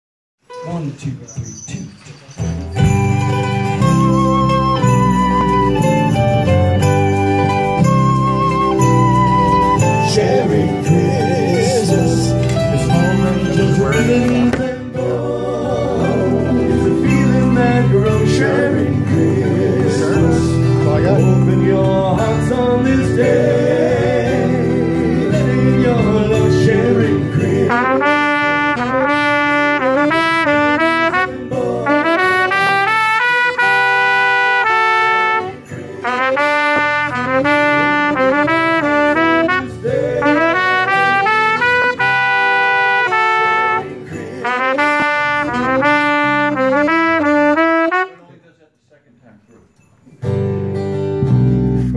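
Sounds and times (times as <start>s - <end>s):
trumpet and saxophone melody: 0.4s - 1.2s, 2.8s - 48.3s
band accompaniment with bass: 0.5s - 48.0s, 50.2s - 51.9s.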